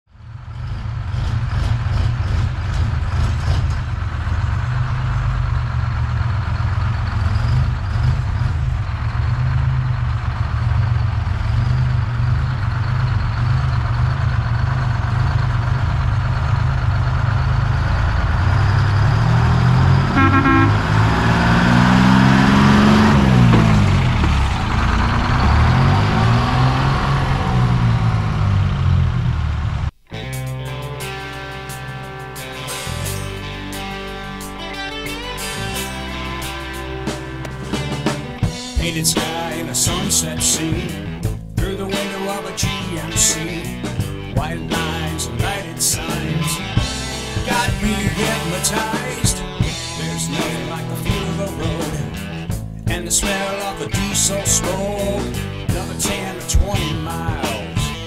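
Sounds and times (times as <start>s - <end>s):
diesel truck engine revving: 0.1s - 30.0s, 31.0s - 58.0s.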